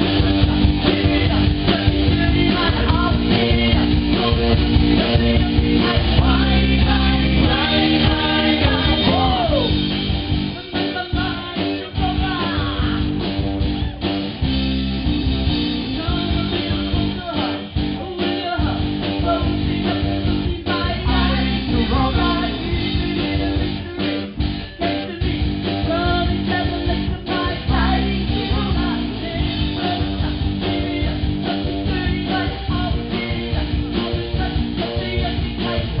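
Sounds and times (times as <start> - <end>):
person singing lead vocal: 0.0 - 14.2, 15.8 - 36.0
live rock band playing: 0.0 - 36.0.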